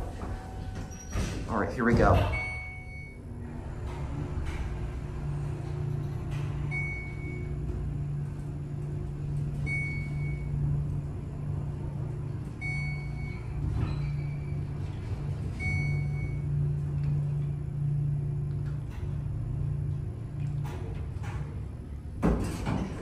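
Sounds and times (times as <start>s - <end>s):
elevator hum: 0.0s - 23.0s.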